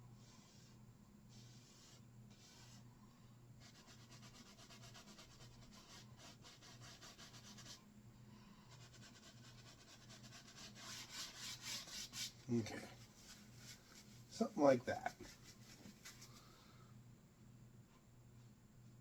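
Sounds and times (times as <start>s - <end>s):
paintbrush strokes on canvas: 0.1s - 7.8s, 8.5s - 16.6s.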